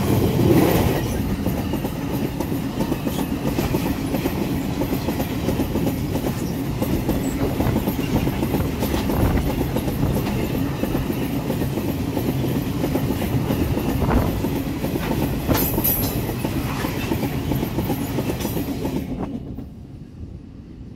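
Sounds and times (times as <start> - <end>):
train wagons rumbling on rails: 0.0 - 20.9.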